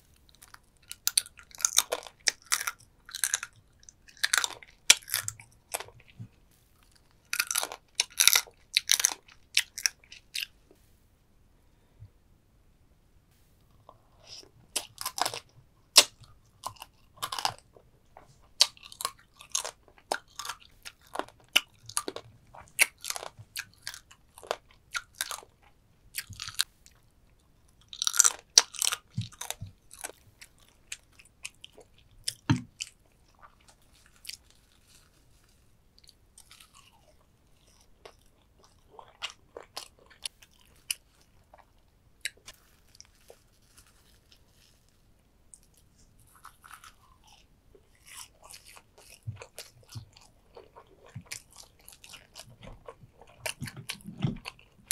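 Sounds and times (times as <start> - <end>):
chewing crab: 0.2 - 10.6, 13.9 - 27.0, 27.7 - 54.9.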